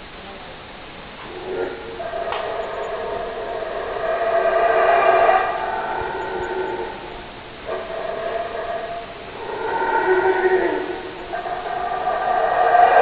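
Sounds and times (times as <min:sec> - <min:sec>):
animal howling: 0:01.3 - 0:13.0.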